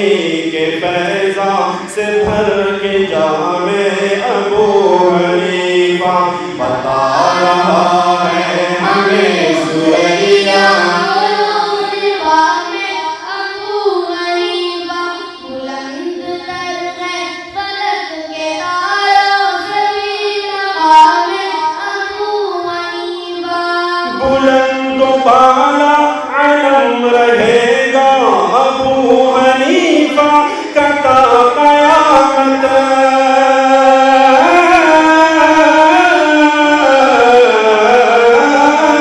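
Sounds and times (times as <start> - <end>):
layered voices singing: 0.0 - 39.0.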